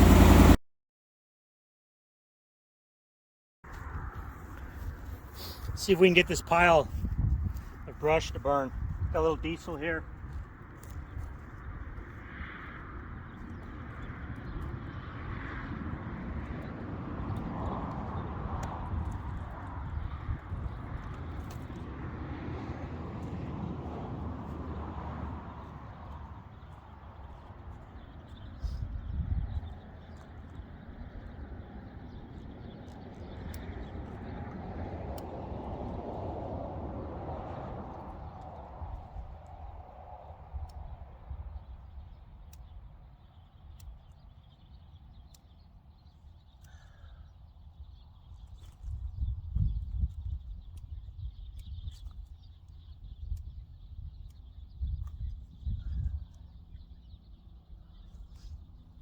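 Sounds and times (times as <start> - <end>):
wind buffeting microphone: 3.7 - 45.3, 47.8 - 59.0.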